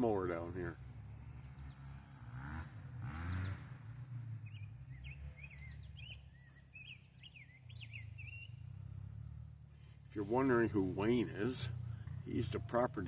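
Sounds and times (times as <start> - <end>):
songbird chirping: 0.0 - 2.3, 3.1 - 13.0.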